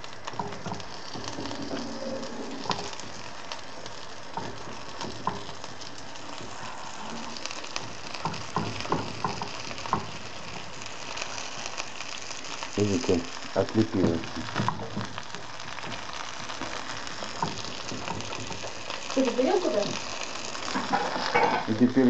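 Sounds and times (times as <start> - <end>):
fish sizzling in hot oil: 0.0 - 22.0.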